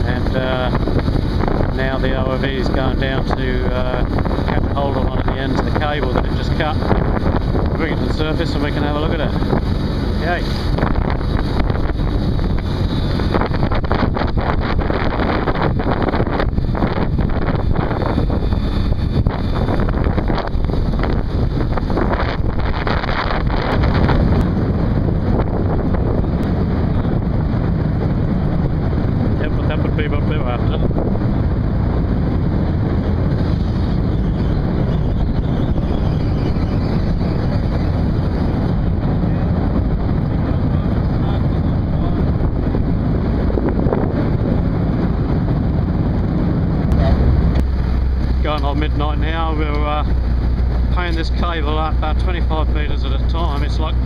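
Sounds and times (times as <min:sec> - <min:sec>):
ship low rumble: 0:00.0 - 0:54.0
wind buffeting microphone: 0:00.0 - 0:54.0.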